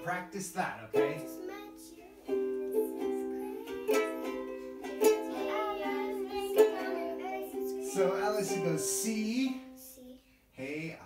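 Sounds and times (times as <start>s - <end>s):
ukulele strumming: 0.8s - 9.8s.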